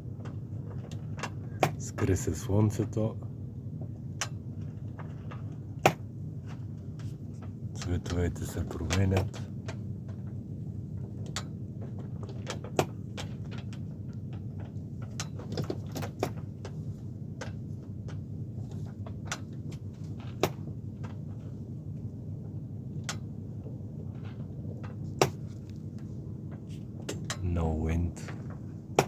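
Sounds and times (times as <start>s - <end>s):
steady low hum: 0.0s - 29.0s
sailboat rigging knocking and clicking: 0.2s - 3.1s, 3.8s - 29.0s.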